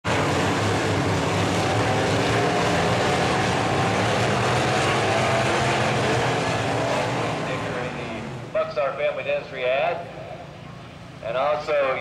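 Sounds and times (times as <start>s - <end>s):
race car engines running: 0.0s - 12.0s.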